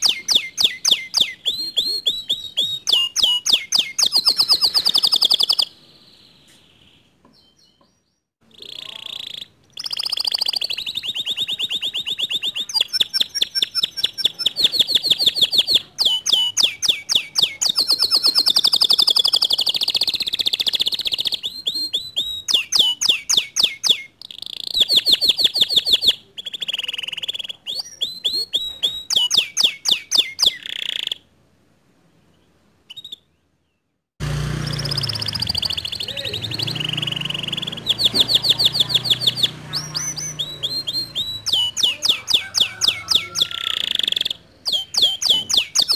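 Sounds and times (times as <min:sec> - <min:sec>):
canary singing trills: 0:00.0 - 0:31.3, 0:32.3 - 0:33.8, 0:34.5 - 0:45.9.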